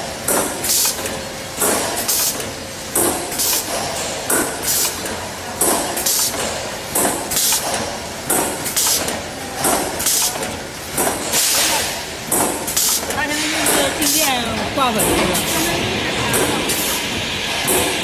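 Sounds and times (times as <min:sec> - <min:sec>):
packing machine running: 0:00.0 - 0:18.0.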